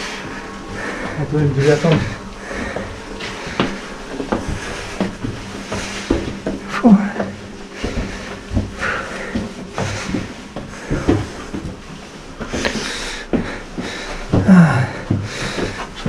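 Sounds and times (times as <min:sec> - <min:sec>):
footsteps on stairs: 0:00.0 - 0:16.0
people breathing hard: 0:00.0 - 0:16.0.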